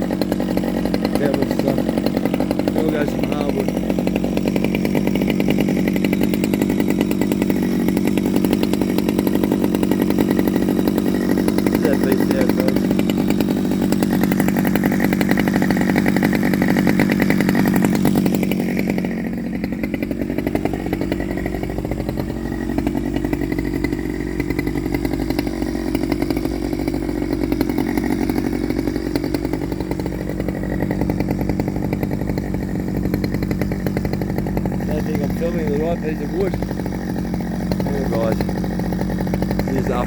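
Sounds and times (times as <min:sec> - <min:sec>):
chainsaw cutting at high revs: 0:00.0 - 0:40.0.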